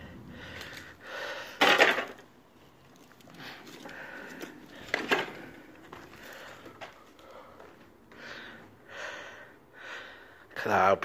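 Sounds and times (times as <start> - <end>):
heavy breathing: 0.0 - 1.8, 3.2 - 10.6.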